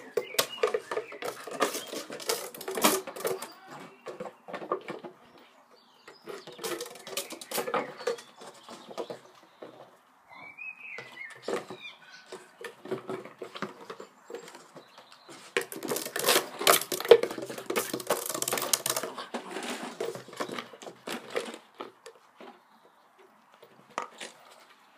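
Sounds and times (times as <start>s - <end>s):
plastic bottle clattering on stone: 0.0s - 5.2s, 6.0s - 9.9s, 11.0s - 22.6s.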